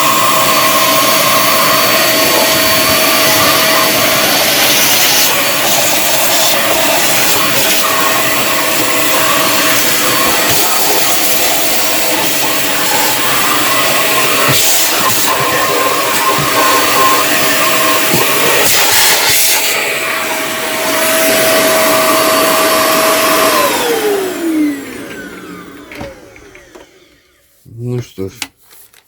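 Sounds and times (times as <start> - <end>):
vacuum cleaner running: 0.0 - 27.6.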